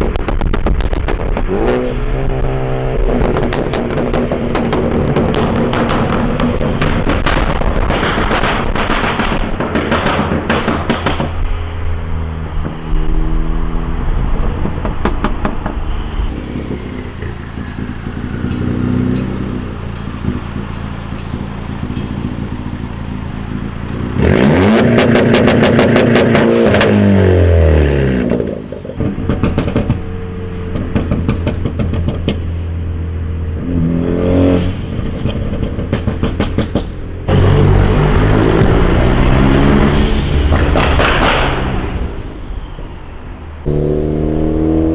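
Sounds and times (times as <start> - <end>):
exhaust pops and crackles: 0.0 - 13.4, 14.2 - 27.0, 28.2 - 33.0, 34.5 - 37.5, 39.9 - 42.2
car engine revving: 0.0 - 44.9.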